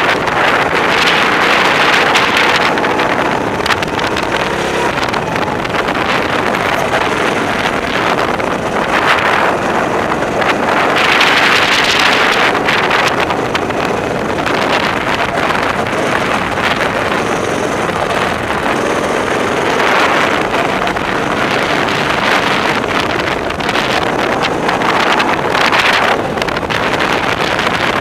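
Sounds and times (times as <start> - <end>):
go-kart engine running: 0.0 - 28.0
wind noise on microphone: 0.0 - 28.0.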